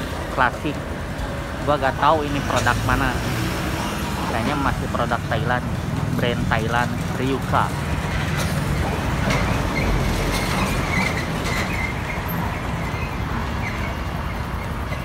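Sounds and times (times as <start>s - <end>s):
vehicle and road rumble: 0.0s - 15.0s.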